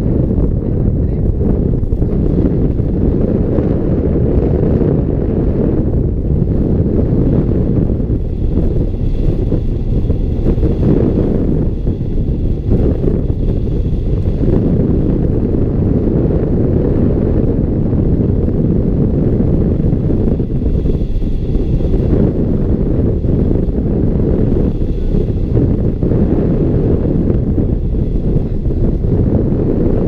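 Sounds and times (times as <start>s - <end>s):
wind noise rumble: 0.0s - 30.0s.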